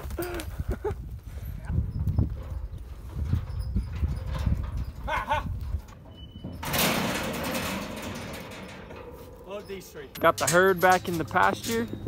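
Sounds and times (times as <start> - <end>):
hooves clattering on trailer: 0.0 - 12.0.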